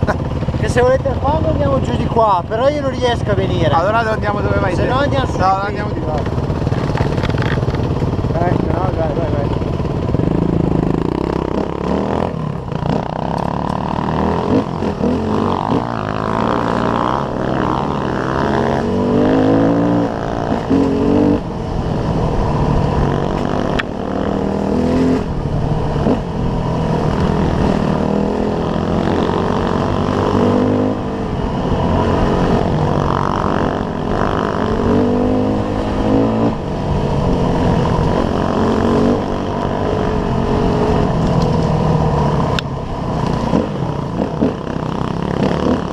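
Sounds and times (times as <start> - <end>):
pit bike engine revving: 0.0 - 45.9.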